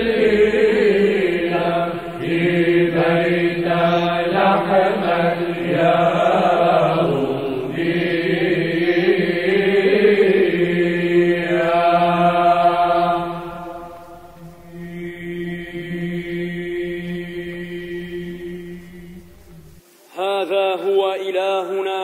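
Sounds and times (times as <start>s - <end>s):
choir chanting: 0.0s - 22.0s.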